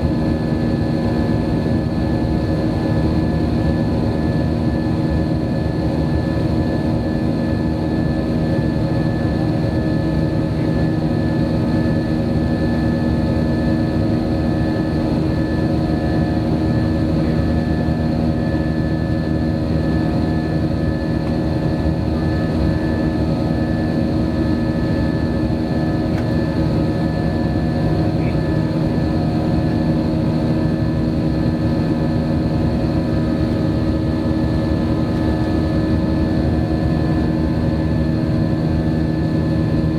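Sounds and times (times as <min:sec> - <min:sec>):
airliner cabin engine rumble: 0:06.2 - 0:39.9.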